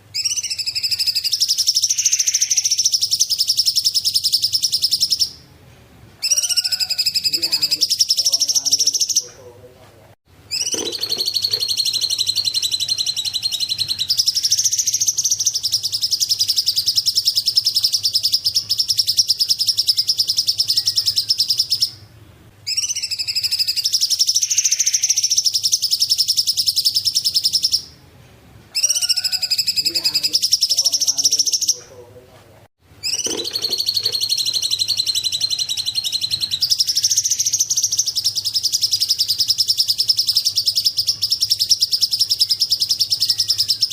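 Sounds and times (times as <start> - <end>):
bird high chattering trills: 0.2 - 5.4, 6.2 - 9.4, 10.5 - 22.1, 22.7 - 28.0, 28.7 - 31.9, 33.0 - 43.9.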